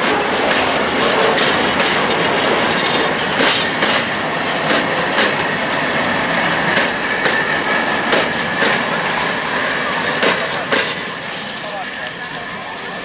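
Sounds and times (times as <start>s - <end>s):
high wheel squeal: 0.0s - 13.0s
wheels clicking over rail joints: 0.0s - 13.0s.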